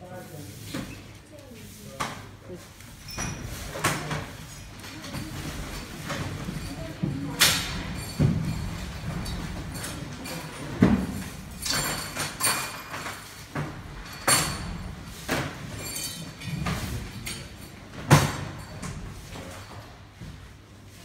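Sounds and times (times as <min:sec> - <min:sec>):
knocks and metallic clinks: 0:03.0 - 0:20.3.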